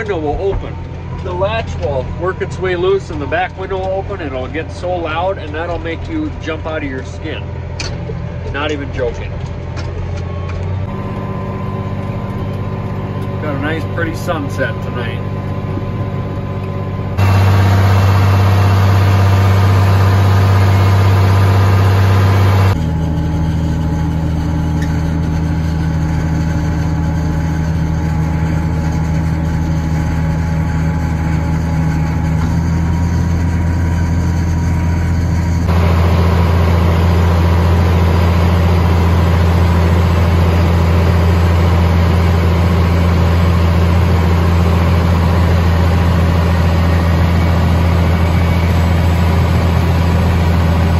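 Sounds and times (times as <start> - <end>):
diesel engines humming: 0.0 - 50.9.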